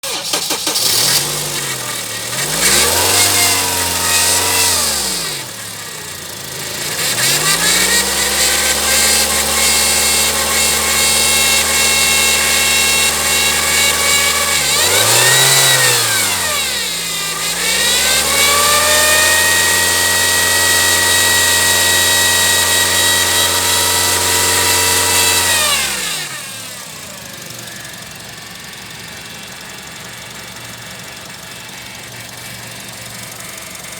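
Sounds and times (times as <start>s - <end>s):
car engine revving: 0.0s - 27.4s.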